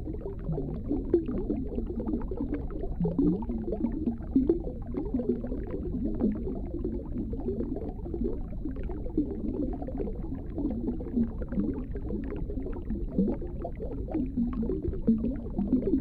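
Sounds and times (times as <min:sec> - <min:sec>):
small underwater clicks: 0:00.0 - 0:16.0
underwater water rumble: 0:00.0 - 0:16.0.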